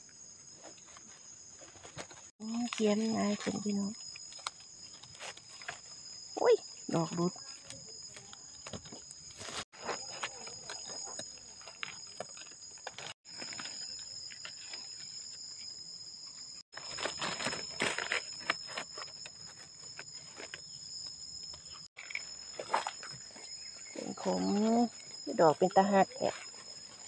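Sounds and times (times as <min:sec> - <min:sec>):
insects droning shrilly: 0:00.0 - 0:27.0.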